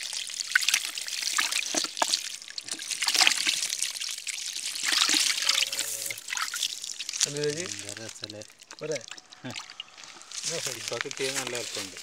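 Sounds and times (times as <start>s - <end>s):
water splashing in a bucket: 0.0s - 12.0s.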